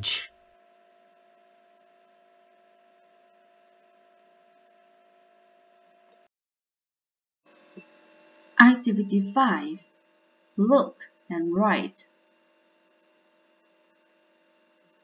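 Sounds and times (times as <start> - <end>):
faint electrical hum with tones: 0.0 - 6.3, 7.5 - 15.0.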